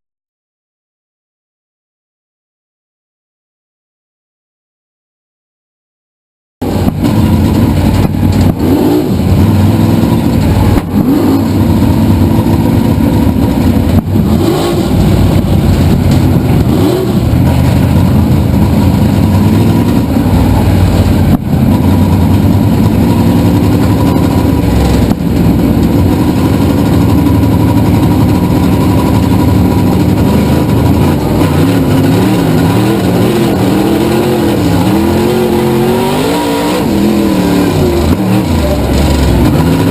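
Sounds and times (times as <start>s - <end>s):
race car engine revving: 6.6s - 39.9s.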